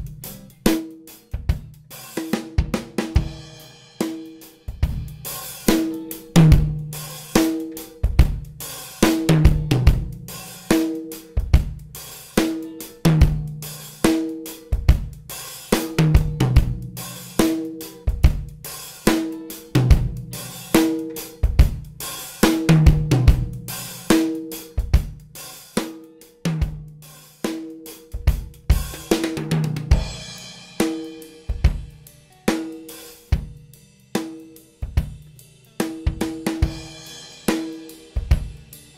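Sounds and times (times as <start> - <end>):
drum kit playing a groove: 0.0 - 38.9.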